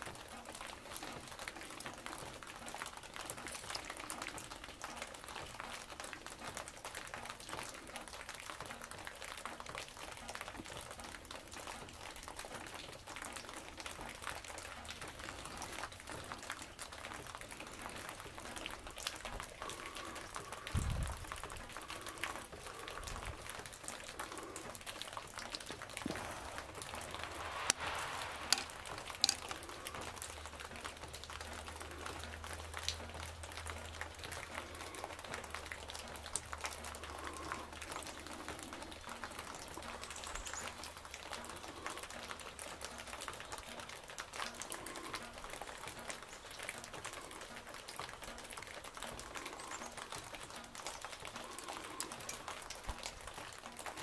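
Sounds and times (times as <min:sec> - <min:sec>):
crackling hiss with ticks: 0:00.0 - 0:54.0.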